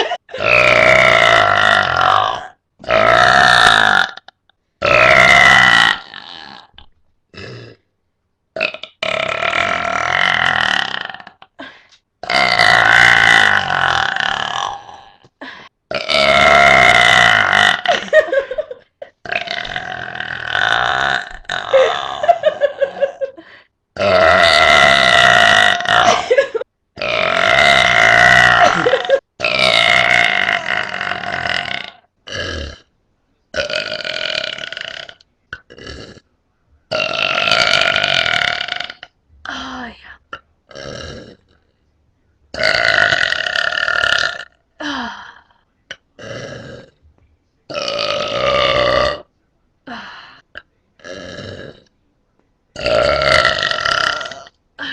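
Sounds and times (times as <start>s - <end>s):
person burping: 0.0s - 7.8s, 8.6s - 23.4s, 24.0s - 32.9s, 33.5s - 36.2s, 36.9s - 41.7s, 42.5s - 47.0s, 47.7s - 49.3s, 49.9s - 51.9s, 52.8s - 54.9s.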